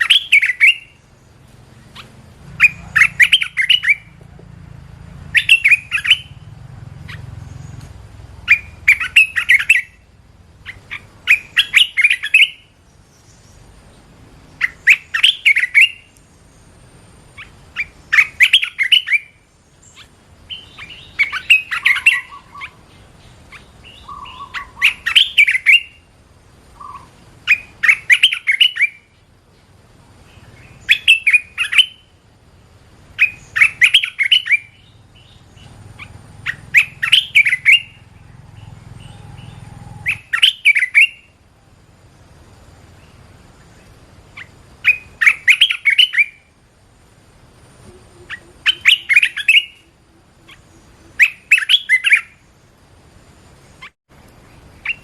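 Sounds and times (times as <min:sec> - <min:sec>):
bird singing warbled phrases: 0:00.0 - 0:04.4, 0:05.2 - 0:55.0.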